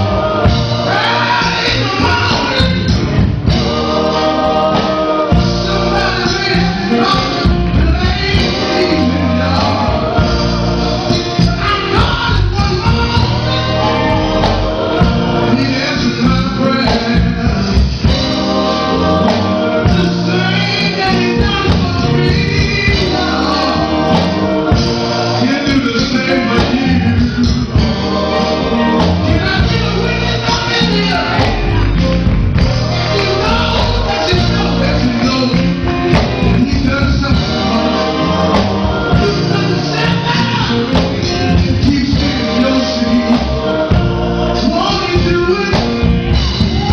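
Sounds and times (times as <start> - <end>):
gospel song with band: 0.0 - 46.9.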